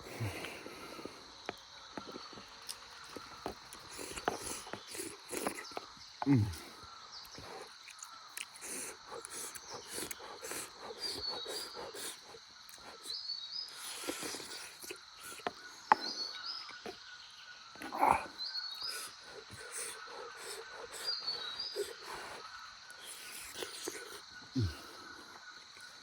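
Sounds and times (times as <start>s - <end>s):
bird calling: 1.8s - 26.0s.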